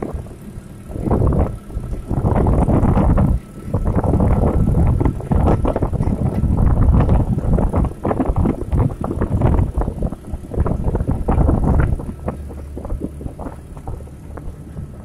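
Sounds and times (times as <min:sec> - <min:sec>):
motorcycle engine running: 0:00.0 - 0:15.0
wind on microphone: 0:00.0 - 0:15.0
choppy knocks: 0:01.1 - 0:15.0.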